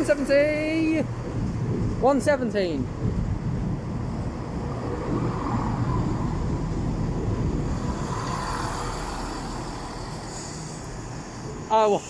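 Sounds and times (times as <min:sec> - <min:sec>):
diesel train engine rumble: 0:00.0 - 0:12.0.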